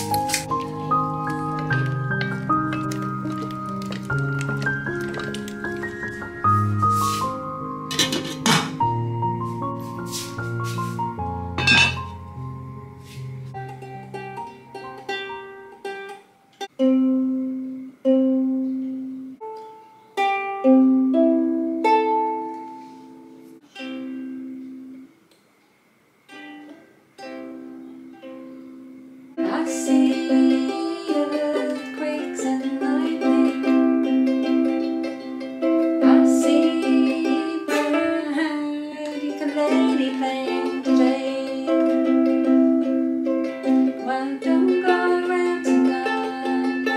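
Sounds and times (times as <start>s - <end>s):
ukulele plucked notes: 0.0s - 25.2s, 26.2s - 46.9s
ukulele strummed chords: 0.0s - 25.2s, 26.3s - 46.9s.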